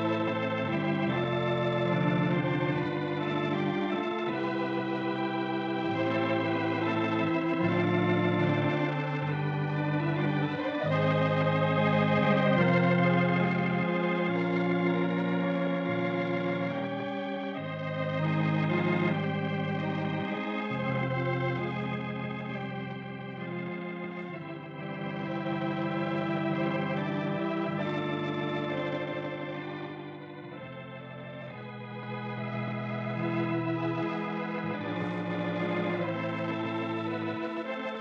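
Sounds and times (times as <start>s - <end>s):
organ playing sustained chords: 0.0s - 38.0s.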